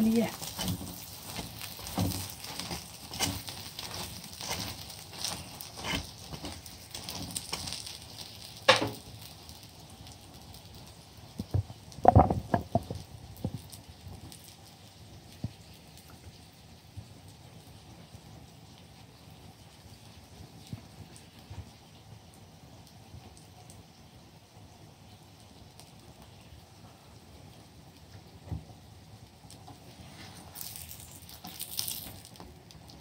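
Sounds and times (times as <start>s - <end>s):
flatbread frying in oil: 0.0s - 33.0s.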